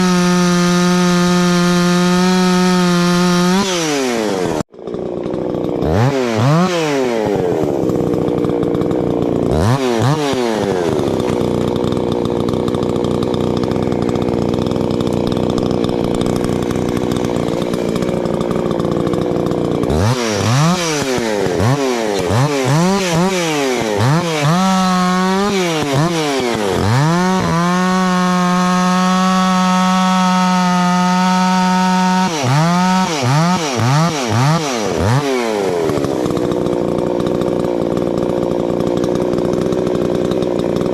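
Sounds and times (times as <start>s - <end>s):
chainsaw cutting wood: 0.0s - 40.9s
chainsaw revving: 0.0s - 40.9s.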